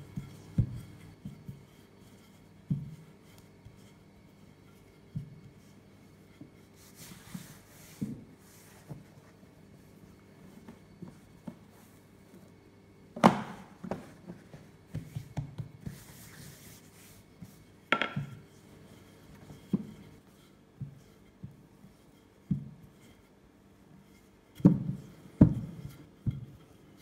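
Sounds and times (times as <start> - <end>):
rolling pin rubbing on dough: 0.0 - 12.5, 13.8 - 27.0.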